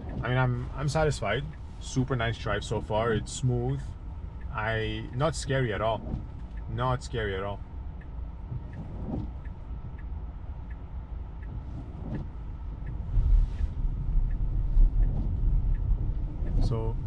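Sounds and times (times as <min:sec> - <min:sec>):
faint regular ticking: 0:00.0 - 0:17.0
road and tyre rumble: 0:00.0 - 0:17.0.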